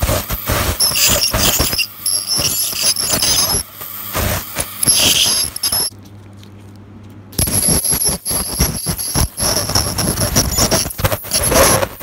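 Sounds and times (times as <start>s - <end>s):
scraping and hissing: 0.0s - 5.9s, 7.4s - 12.0s
dental scaler whine: 0.5s - 5.9s, 7.4s - 12.0s.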